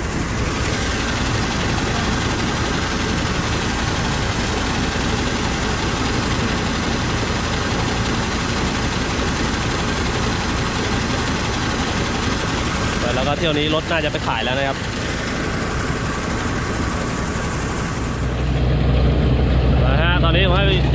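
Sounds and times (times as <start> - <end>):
combine harvester engine running: 0.0 - 20.9.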